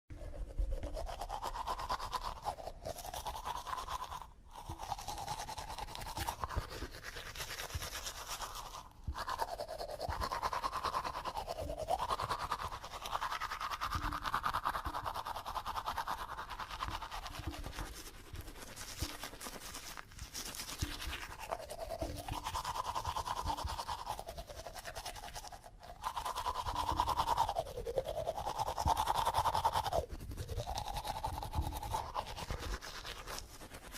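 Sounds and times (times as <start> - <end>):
scrubbing of teeth: 0.1 - 33.9.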